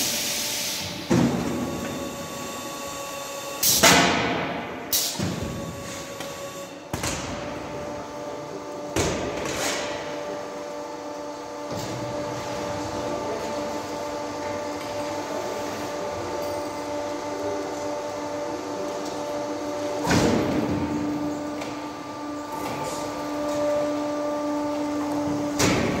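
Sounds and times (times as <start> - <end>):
machine motor hum and whine: 0.0 - 26.0.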